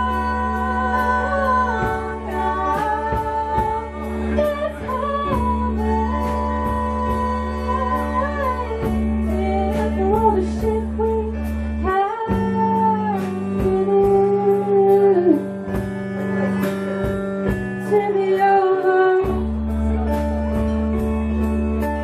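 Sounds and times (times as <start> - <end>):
deep bass notes: 0.0 - 22.0
live band playing: 0.0 - 22.0
person singing: 0.0 - 22.0.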